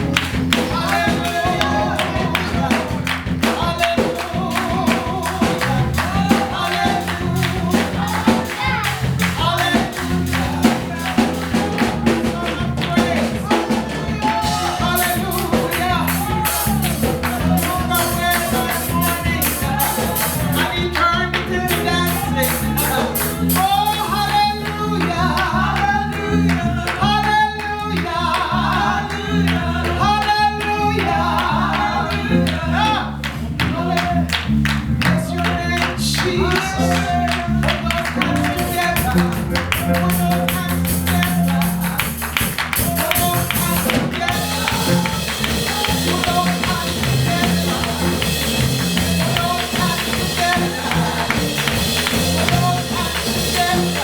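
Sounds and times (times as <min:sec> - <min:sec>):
band playing a steady beat: 0:00.0 - 0:54.0
voices singing gospel: 0:00.0 - 0:54.0.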